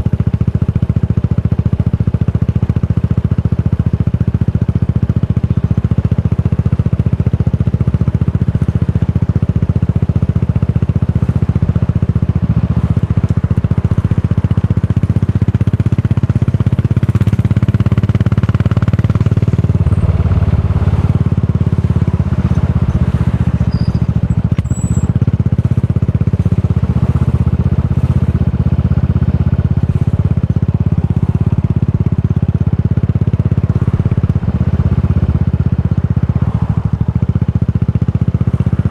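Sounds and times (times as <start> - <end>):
motorcycle exhaust pulsing: 0.0 - 38.9.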